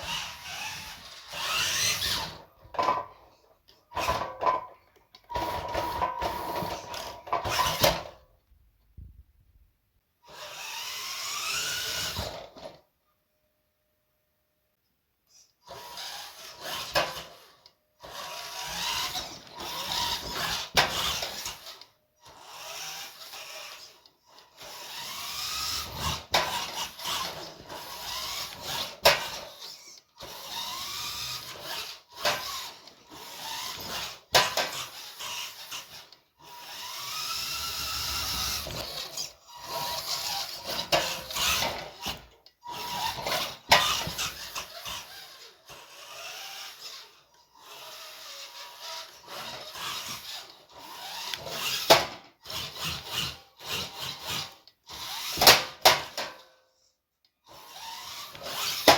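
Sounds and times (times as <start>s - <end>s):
small electric motor whining: 0.0s - 2.5s, 10.2s - 12.8s, 15.3s - 56.2s, 57.4s - 58.9s.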